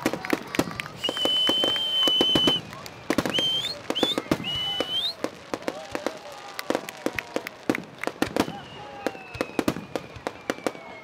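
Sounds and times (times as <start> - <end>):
rising firework whistles: 0.7 - 11.0.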